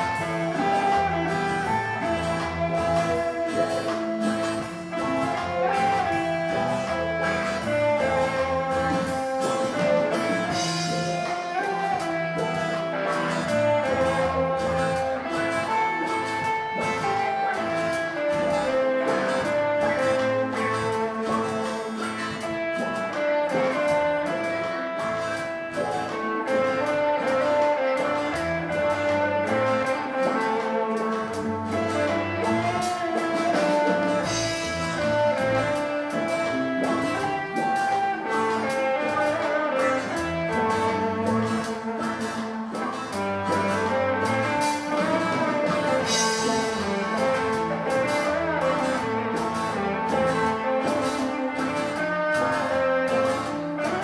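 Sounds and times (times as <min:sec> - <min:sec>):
bass guitar: 0:00.0 - 0:54.0
drum kit beat: 0:00.0 - 0:54.0
electric and acoustic guitars: 0:00.0 - 0:54.0.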